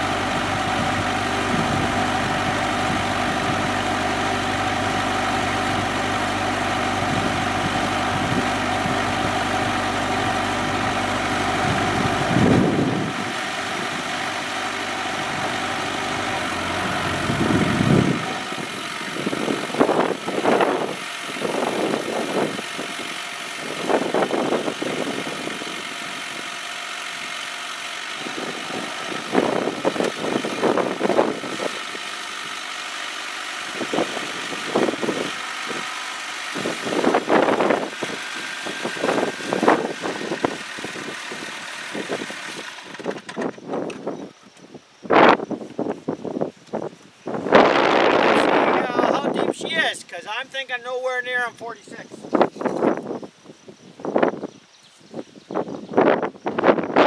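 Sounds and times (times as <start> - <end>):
diesel tractor engine running: 0.0 - 54.5.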